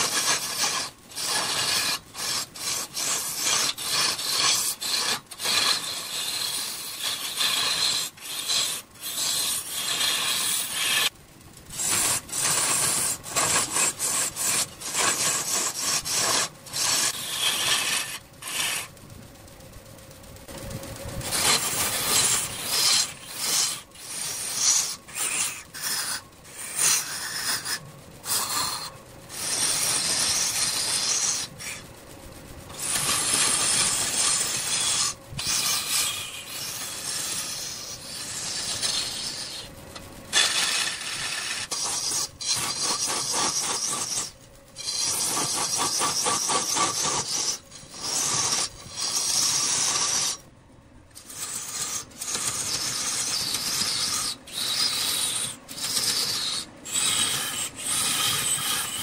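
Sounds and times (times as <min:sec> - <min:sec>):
lathe tool scraping wood: 0:00.0 - 0:19.0, 0:21.1 - 0:31.9, 0:32.7 - 0:50.4, 0:51.2 - 0:59.0.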